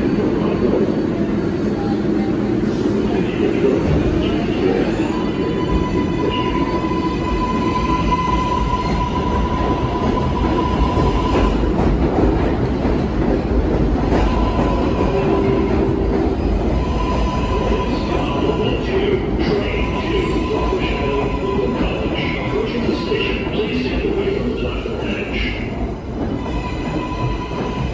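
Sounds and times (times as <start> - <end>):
high train whine: 0.0 - 27.9
train wheels rumbling on rail: 0.0 - 27.9.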